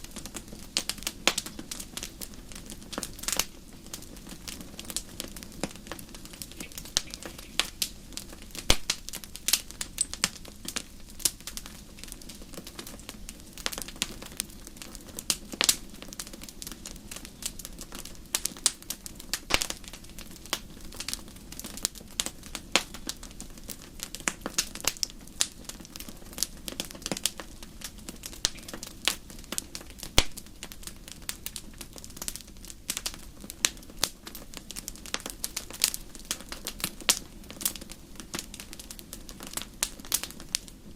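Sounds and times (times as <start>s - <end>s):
bonfire crackling: 0.0s - 40.9s
low steady hiss: 0.0s - 40.9s.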